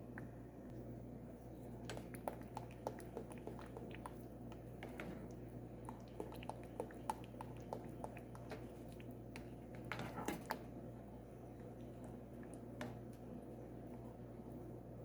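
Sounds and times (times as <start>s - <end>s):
stirring in a pot: 1.4s - 14.3s
porridge popping and squelching: 1.6s - 14.3s.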